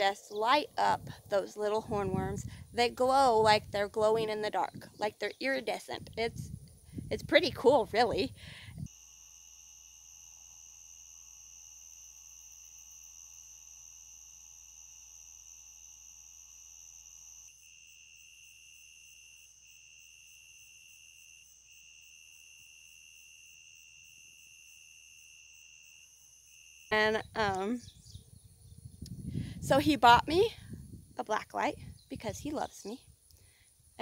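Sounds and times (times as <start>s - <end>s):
night insects singing: 0.0s - 29.4s
broken insect call: 0.0s - 29.5s.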